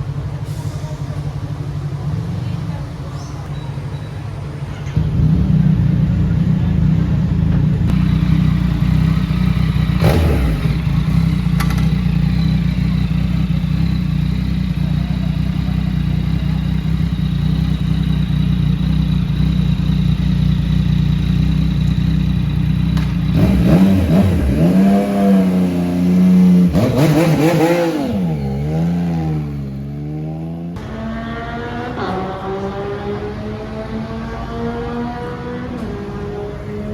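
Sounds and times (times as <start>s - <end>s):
motorcycle engine drone: 0.0s - 36.9s
motorcycle revving: 4.4s - 36.9s
motorcycle accelerating away: 5.0s - 36.9s.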